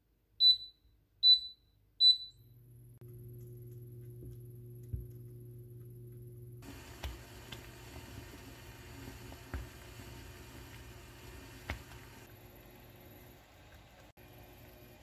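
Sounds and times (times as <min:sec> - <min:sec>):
cooktop low hum: 0:02.1 - 0:15.0.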